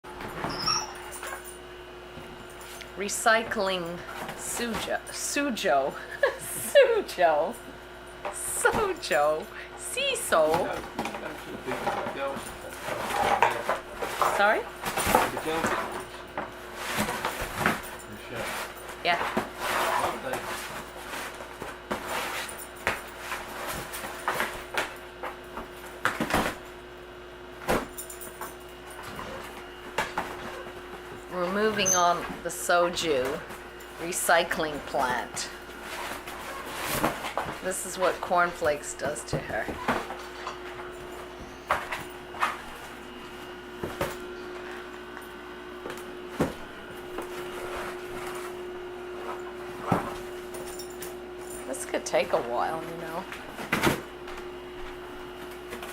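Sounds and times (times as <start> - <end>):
steady low hum: 0.1 - 55.9.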